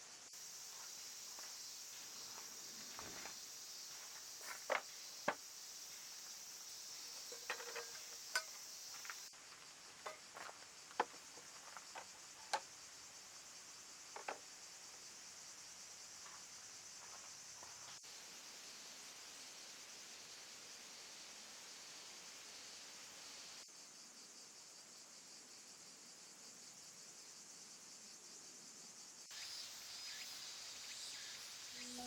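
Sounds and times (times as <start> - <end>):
insects chorus: 0.0 - 32.0.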